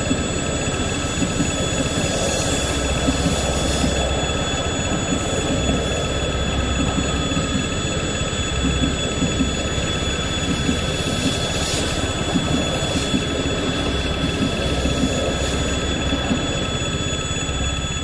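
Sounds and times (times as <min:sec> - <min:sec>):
steady high tone: 0:00.0 - 0:18.0
train wheels rumbling on rails: 0:00.0 - 0:18.0.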